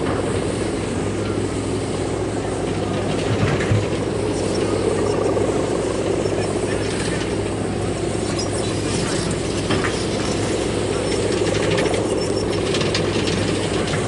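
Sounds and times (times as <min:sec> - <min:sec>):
kite hummer droning: 0:00.0 - 0:14.0.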